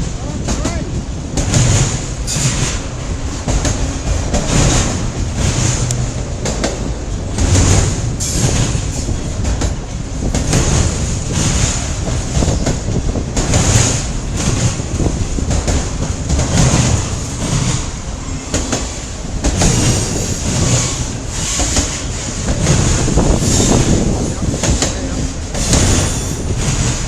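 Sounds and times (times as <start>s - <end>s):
train cars rolling past: 0.0s - 27.0s
wheels clacking over rail joints: 0.0s - 27.0s.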